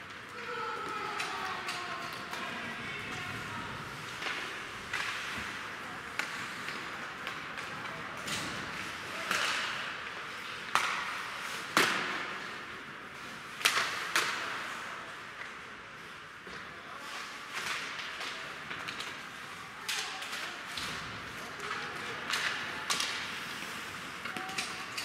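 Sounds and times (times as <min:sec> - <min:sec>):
hockey sticks and puck clacking: 0:00.0 - 0:25.0.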